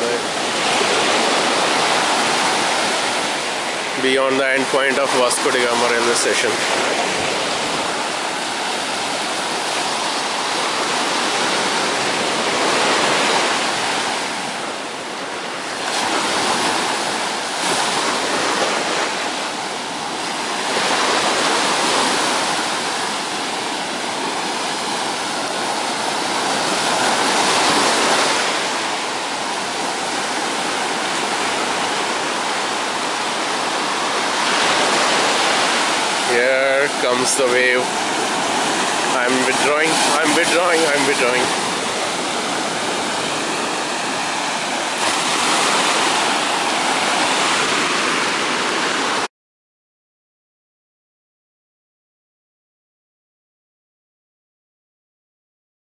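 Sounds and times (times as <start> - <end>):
sea surf breaking on sand: 0.0 - 49.3.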